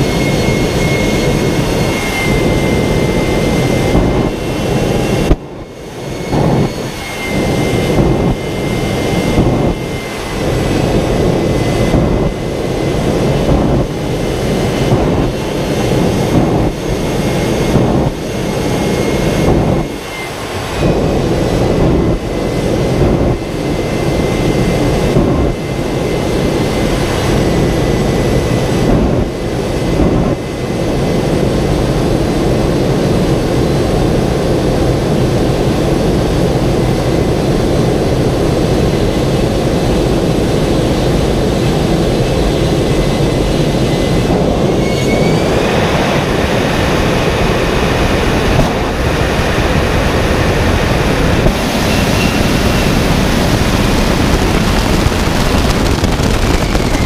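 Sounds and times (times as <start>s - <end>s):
turbine engine whine and roar: 0.0s - 57.0s.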